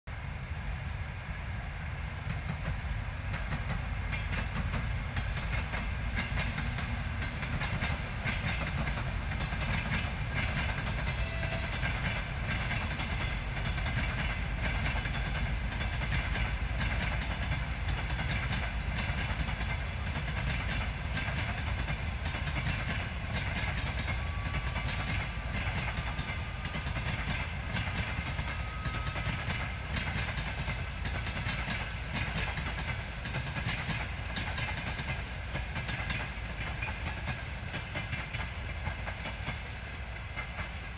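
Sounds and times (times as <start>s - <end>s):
train low rumble: 0.1s - 40.9s
train wheels clicking over rail joints: 2.2s - 40.9s.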